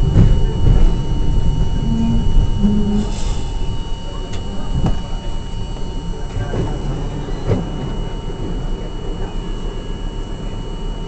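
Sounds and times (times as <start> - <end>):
faint high whine: 0.0 - 11.0
subway car rumble: 0.0 - 11.0.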